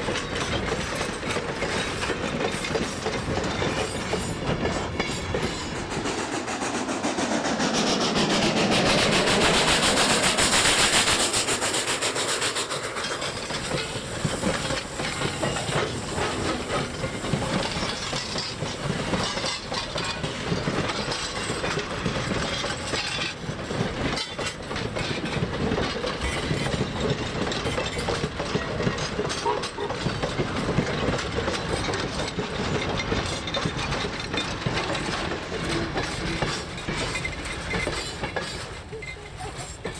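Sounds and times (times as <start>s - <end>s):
train passing with hissing rush: 0.0s - 39.9s
train wheels clicking over rail joints: 0.0s - 39.9s.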